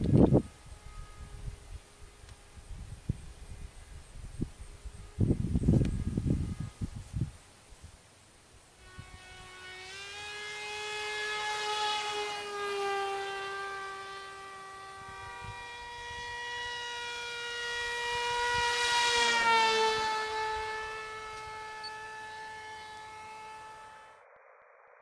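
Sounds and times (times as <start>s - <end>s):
electric motor and propeller whining: 0.0s - 7.8s, 8.6s - 25.0s.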